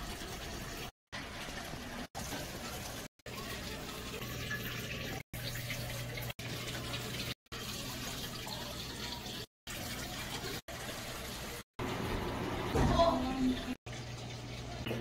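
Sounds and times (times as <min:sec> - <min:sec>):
aquarium water running and splashing: 0:00.0 - 0:15.0.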